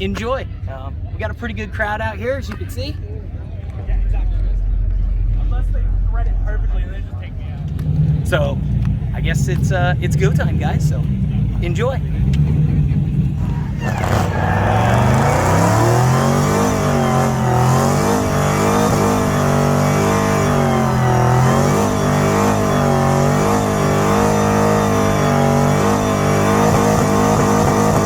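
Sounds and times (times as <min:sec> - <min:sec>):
car engine revving: 0:03.4 - 0:28.0.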